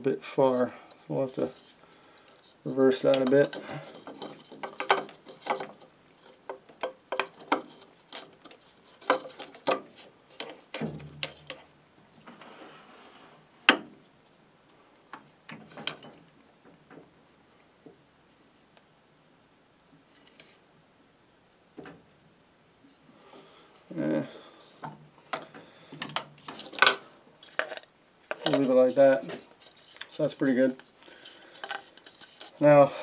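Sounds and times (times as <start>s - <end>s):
rustle: 0.2s - 33.0s.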